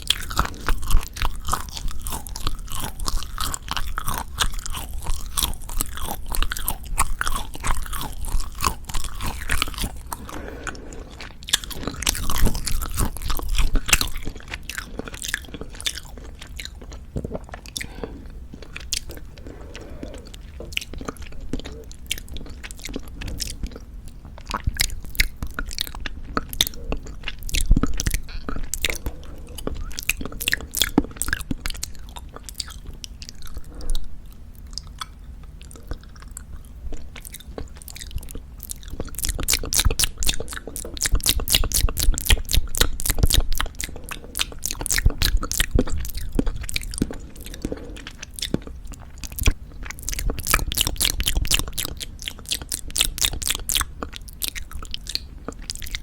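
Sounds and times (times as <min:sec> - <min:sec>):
chewing jerky: 0:00.0 - 0:56.0.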